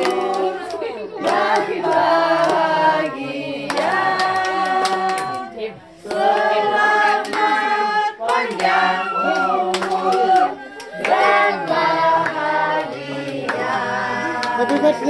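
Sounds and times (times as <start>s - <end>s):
hand clapping: 0.0s - 2.7s, 3.7s - 5.5s, 6.1s - 7.6s, 8.3s - 13.8s, 14.4s - 15.0s
adults and children singing: 0.0s - 15.0s.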